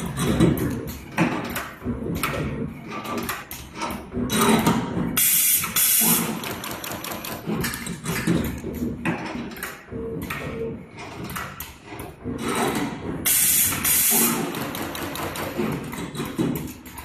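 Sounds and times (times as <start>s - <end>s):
machine clicks and clatter: 0.0s - 17.0s.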